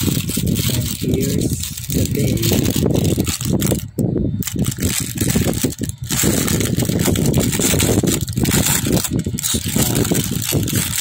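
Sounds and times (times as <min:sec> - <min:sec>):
low rumble: 0:00.0 - 0:11.0
plastic bag crinkling: 0:00.0 - 0:11.0.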